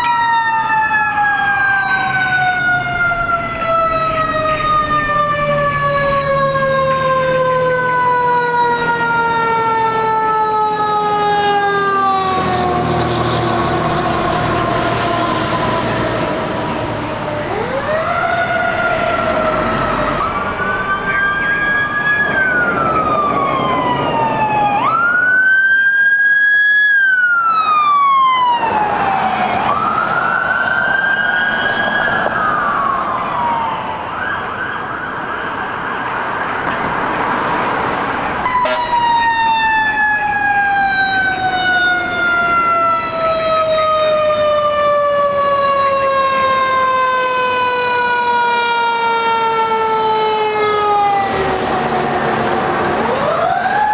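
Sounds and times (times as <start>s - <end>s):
fire engine siren wailing: 0.0s - 53.9s
road and engine noise: 0.0s - 53.9s.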